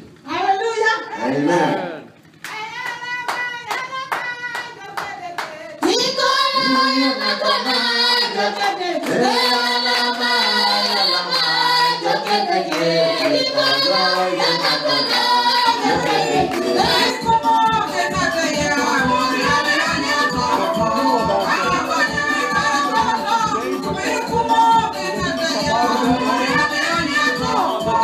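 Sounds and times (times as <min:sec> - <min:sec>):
congregation clapping in rhythm: 0:02.3 - 0:28.0
congregation singing: 0:04.7 - 0:28.0.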